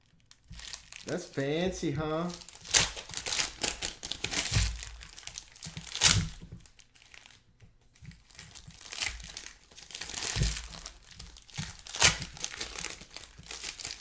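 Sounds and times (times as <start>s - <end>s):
plastic wrappers crinkling and tearing: 0.0s - 14.0s.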